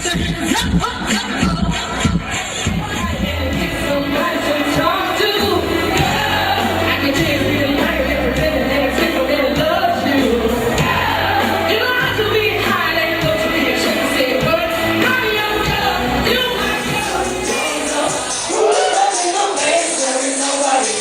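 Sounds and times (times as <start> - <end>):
pop song with sung vocal: 0.0 - 21.0.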